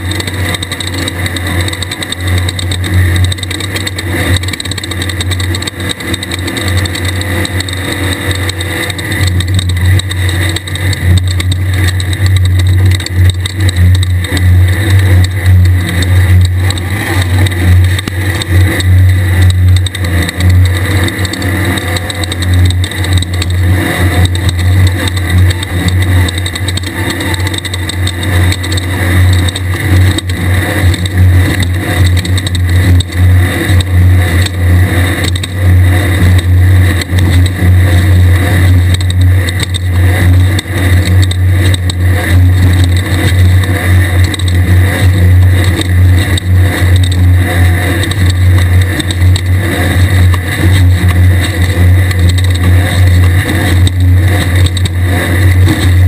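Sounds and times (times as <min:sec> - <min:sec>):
buggy engine running hard: 0:00.0 - 0:56.0.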